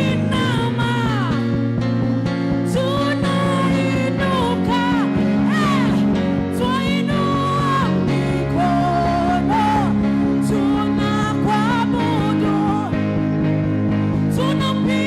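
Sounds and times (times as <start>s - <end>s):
person singing: 0.0s - 1.6s, 2.7s - 13.2s, 14.2s - 15.0s
band playing sustained chords: 0.0s - 15.0s.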